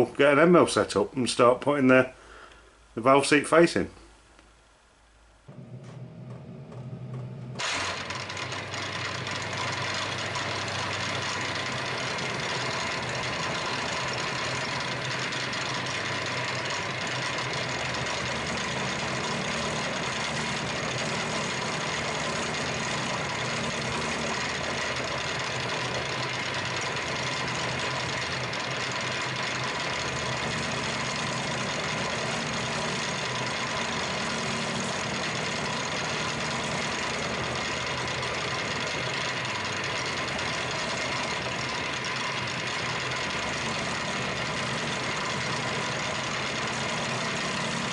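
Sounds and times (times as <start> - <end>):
milling spindle hum: 5.5 - 47.9
end mill cutting metal: 7.6 - 47.9.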